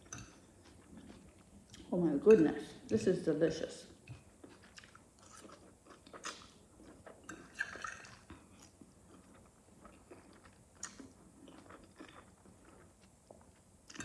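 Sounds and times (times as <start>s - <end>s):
soft wet chewing: 0.0s - 2.0s, 3.9s - 14.0s.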